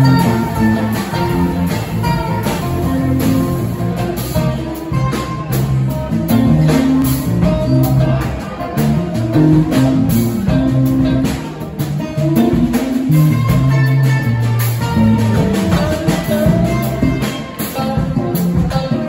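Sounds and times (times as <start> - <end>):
acoustic guitar: 0.0 - 19.0
bass guitar: 0.0 - 19.0
drum kit: 0.0 - 19.0
electric guitar: 0.0 - 19.0.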